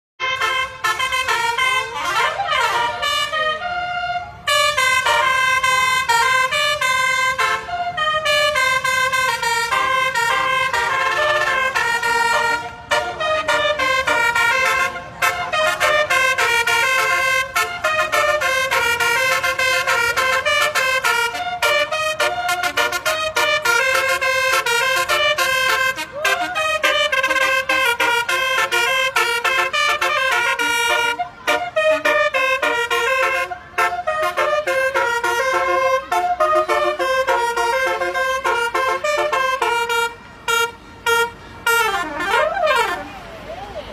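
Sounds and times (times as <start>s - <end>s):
multi-note bus horn melody: 0.2s - 43.3s.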